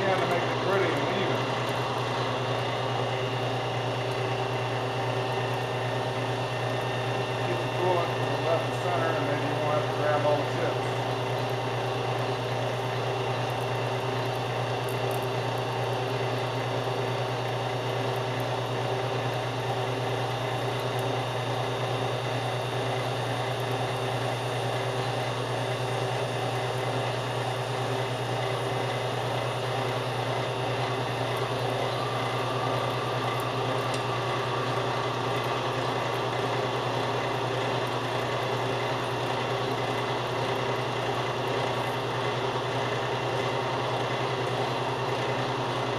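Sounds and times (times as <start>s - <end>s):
metal lathe motor hum: 0.0s - 45.9s.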